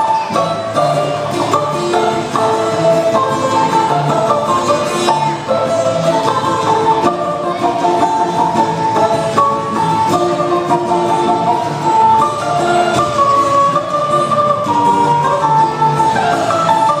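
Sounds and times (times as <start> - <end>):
balalaika plucked melody: 0.0 - 17.0.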